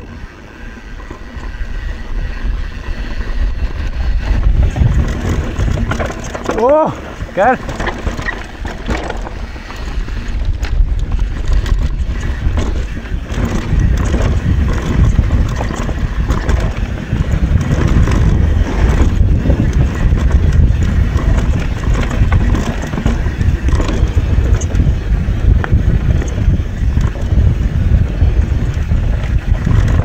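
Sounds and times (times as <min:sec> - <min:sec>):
bike knocking and rattling: 0:00.0 - 0:30.0
bike tyre noise on dirt: 0:00.0 - 0:30.0
wind rumble on microphone: 0:00.0 - 0:30.0.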